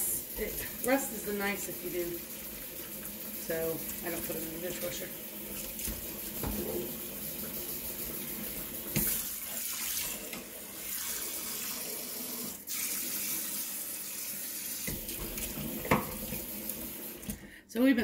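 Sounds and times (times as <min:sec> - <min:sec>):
faucet water splashing in sink: 0:00.0 - 0:17.5.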